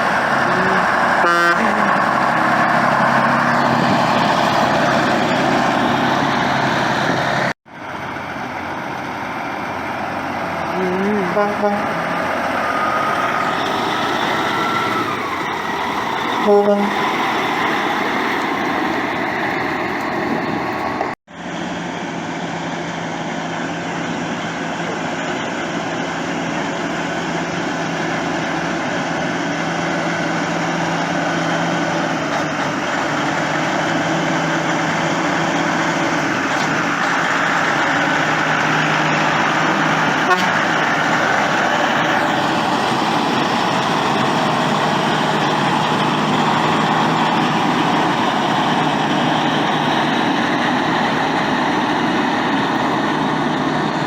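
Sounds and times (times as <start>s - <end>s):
traffic noise: 0.0s - 54.0s
truck engines droning: 0.0s - 54.0s.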